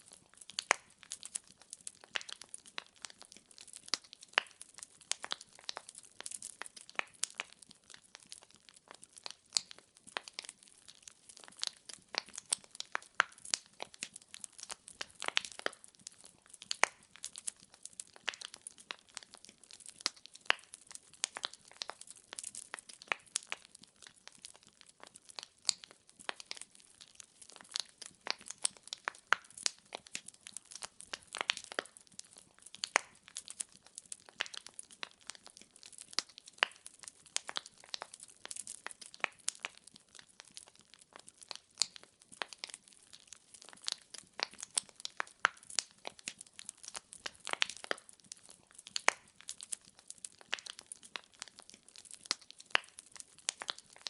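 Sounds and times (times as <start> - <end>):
firewood crackling and popping: 0.0 - 54.0.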